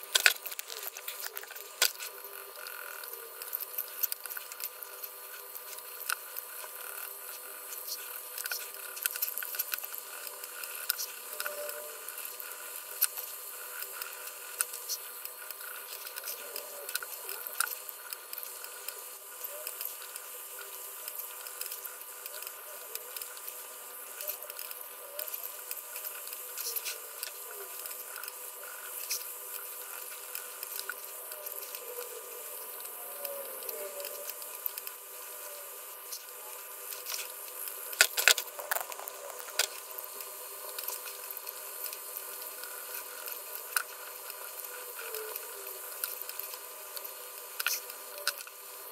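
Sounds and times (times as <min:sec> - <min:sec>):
faint electrical whine: 0:00.0 - 0:48.9.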